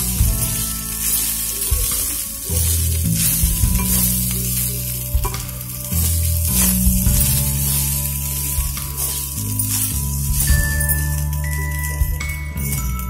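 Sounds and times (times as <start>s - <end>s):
light sizzle: 0.0s - 13.0s.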